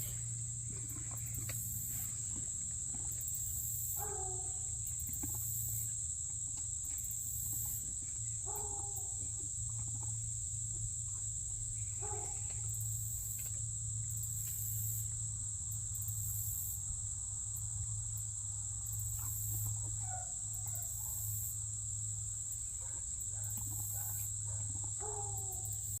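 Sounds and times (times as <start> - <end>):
insects trilling: 0.0 - 26.0
low steady hum: 0.0 - 26.0.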